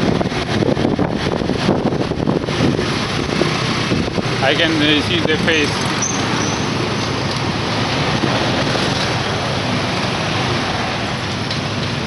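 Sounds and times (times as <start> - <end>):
motorcycle engine running: 0.0 - 12.0
wind rush and road noise: 0.0 - 12.0.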